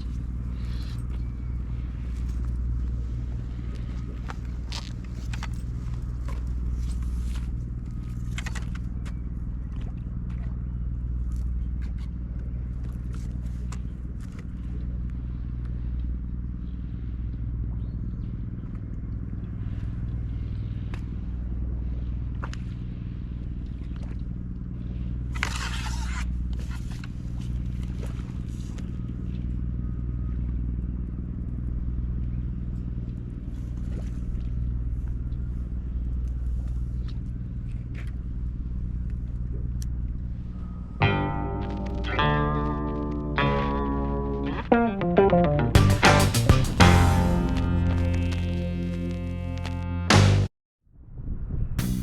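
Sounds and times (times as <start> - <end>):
low hum of deep tones: 0.0 - 50.4.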